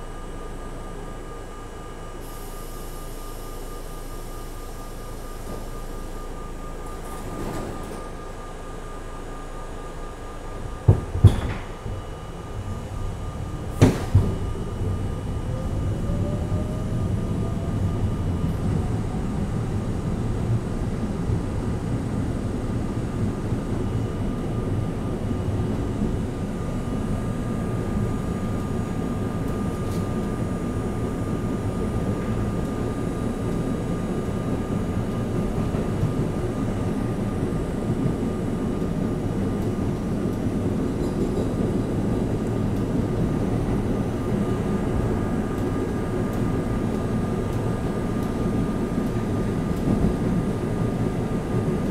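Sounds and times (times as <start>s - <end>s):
train motor whine: 0.0s - 51.8s
train rumble and rattle on rails: 0.0s - 51.9s.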